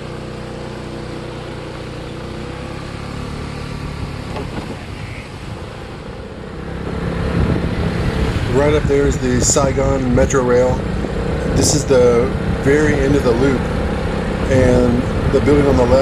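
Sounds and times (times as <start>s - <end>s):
motorbike pulling away: 0.0s - 16.0s.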